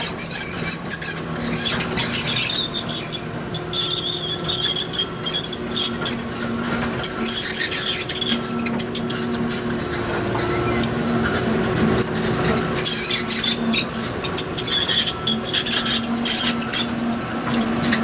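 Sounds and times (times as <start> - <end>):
diesel engine hum: 0.0 - 18.0
high metallic squealing: 0.0 - 18.0.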